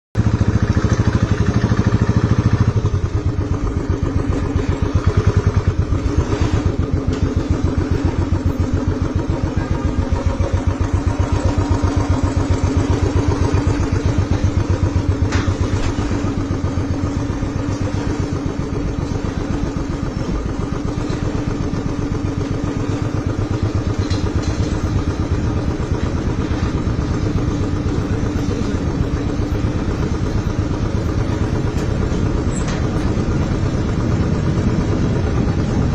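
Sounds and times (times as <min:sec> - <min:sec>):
motorcycle engine running: 0:00.2 - 0:35.9.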